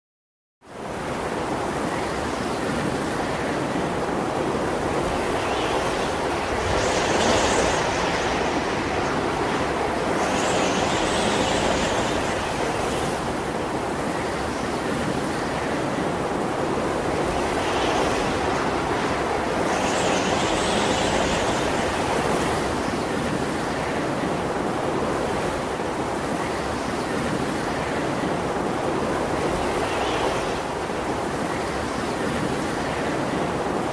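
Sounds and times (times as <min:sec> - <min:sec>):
sea surf: 0:00.7 - 0:33.9.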